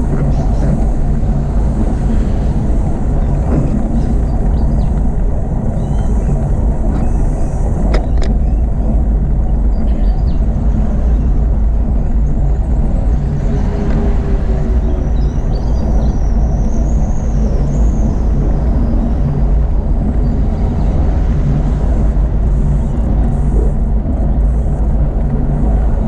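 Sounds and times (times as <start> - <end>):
bicycle tyre and road noise: 0.0 - 26.0
wind buffeting microphone: 0.0 - 26.0.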